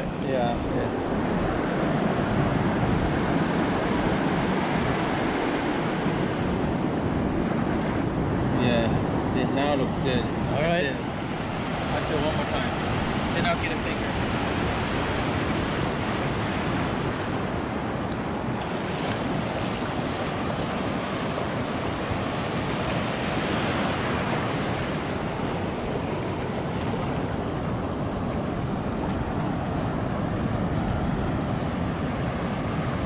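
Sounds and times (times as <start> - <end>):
ocean surf washing over sand: 0.0 - 33.0
wind buffeting microphone: 0.0 - 33.0.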